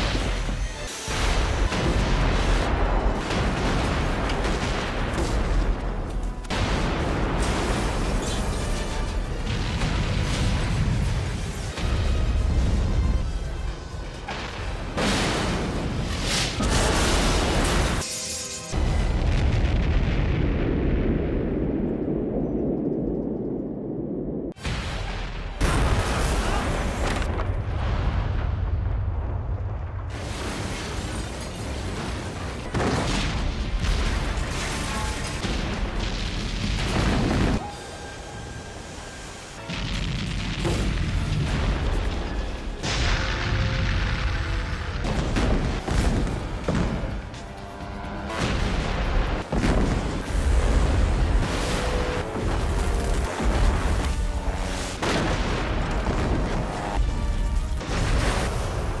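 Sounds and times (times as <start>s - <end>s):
explosions: 0.0s - 13.6s, 14.2s - 18.1s, 18.7s - 47.4s, 48.3s - 59.0s
deep rumble and debris: 0.0s - 18.1s, 18.7s - 37.8s, 38.6s - 59.0s
film music score: 0.0s - 59.0s.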